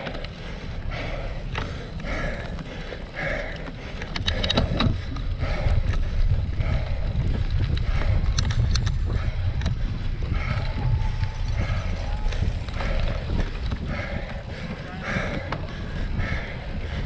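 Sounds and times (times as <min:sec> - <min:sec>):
bike clicking: 0:00.0 - 0:17.0
wind buffeting and riding rumble: 0:00.0 - 0:17.0.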